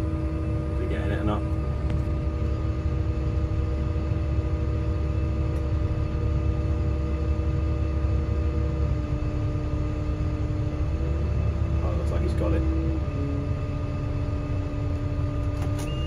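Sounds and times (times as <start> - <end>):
diesel engine rumbling: 0.0 - 16.0
steady hum: 0.0 - 16.0.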